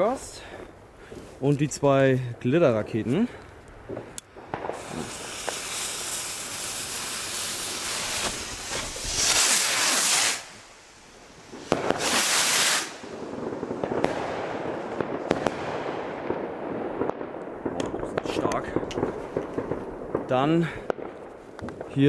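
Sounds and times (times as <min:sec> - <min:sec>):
fireworks popping and crackling: 0:00.0 - 0:22.0
rockets taking off: 0:01.8 - 0:22.0.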